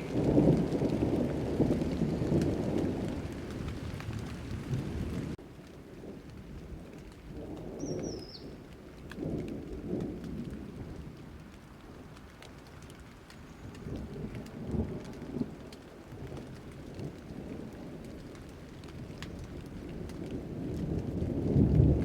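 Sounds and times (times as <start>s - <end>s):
low rolling thunder: 0.0s - 22.0s
steady rain falling: 0.0s - 22.0s.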